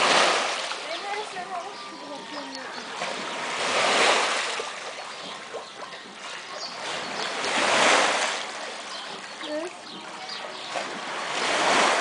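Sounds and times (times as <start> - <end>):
steady low water wash: 0.0 - 12.0
water surging in swells: 0.0 - 12.0.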